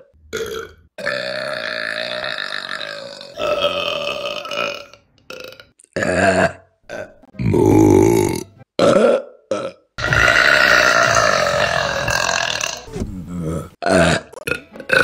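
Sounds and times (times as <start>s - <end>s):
woman burping: 0.4s - 12.9s.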